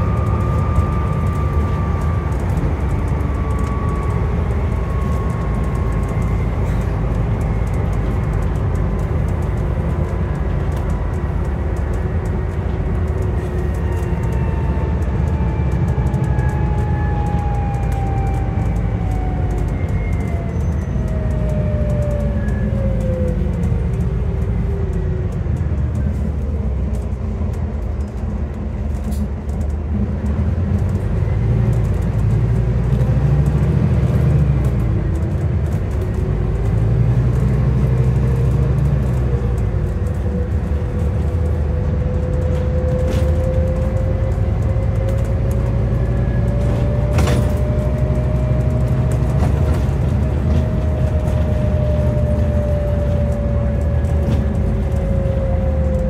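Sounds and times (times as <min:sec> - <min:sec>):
diesel bus engine rumbling: 0:00.0 - 0:56.0
gearbox whine: 0:00.0 - 0:56.0.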